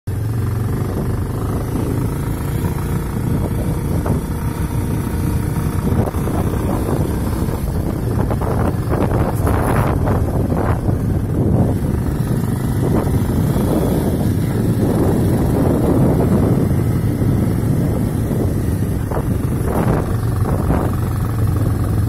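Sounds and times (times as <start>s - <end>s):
motorcycle engine running: 0.1s - 22.0s
wind buffeting microphone: 0.2s - 22.0s.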